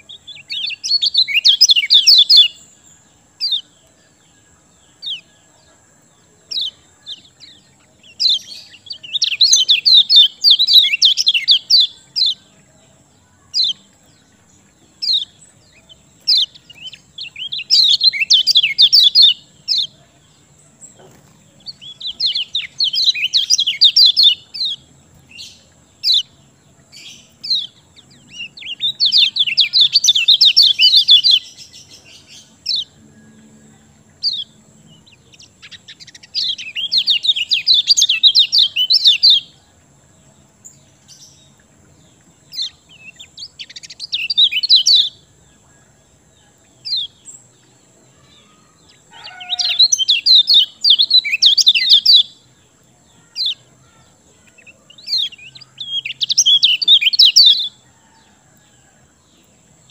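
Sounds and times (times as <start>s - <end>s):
bird trilling chirps: 0.0s - 5.6s, 6.3s - 39.8s, 40.5s - 58.9s.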